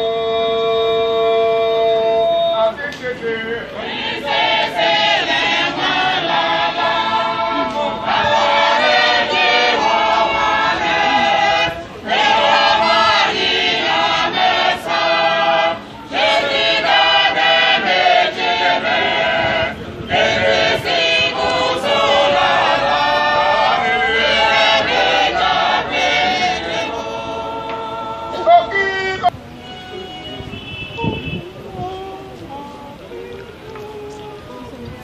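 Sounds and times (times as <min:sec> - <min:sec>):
group singing a hymn: 0:00.0 - 0:30.3, 0:31.0 - 0:35.0.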